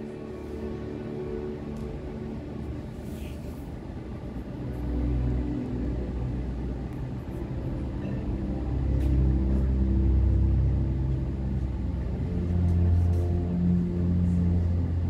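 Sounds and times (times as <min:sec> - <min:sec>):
deep ambient drone: 0:00.0 - 0:15.0.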